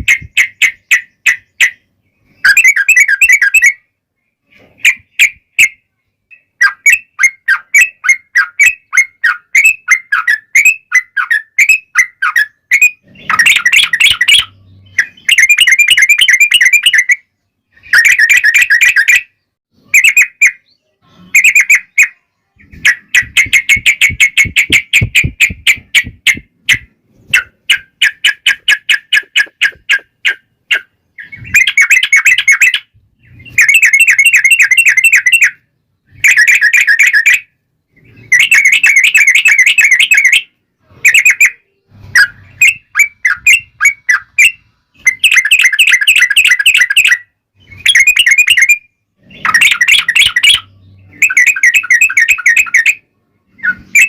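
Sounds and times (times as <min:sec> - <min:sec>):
bulbul singing: 0:00.0 - 0:03.9, 0:04.6 - 0:54.0.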